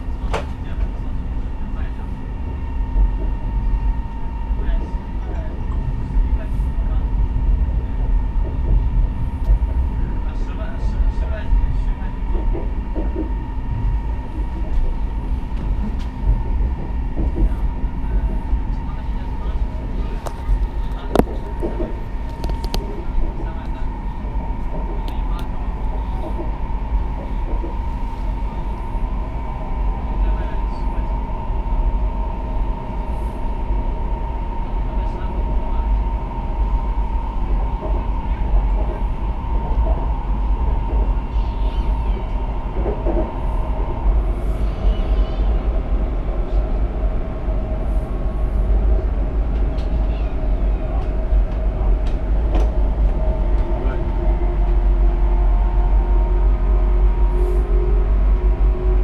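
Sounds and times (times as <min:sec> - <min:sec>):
train cabin rumble and rush: 0:00.0 - 0:59.0.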